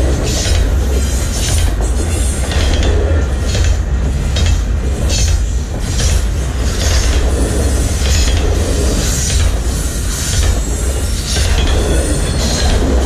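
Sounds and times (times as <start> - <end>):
train cars clattering over track: 0.0 - 13.0
train wheels rumbling on rails: 0.0 - 13.0.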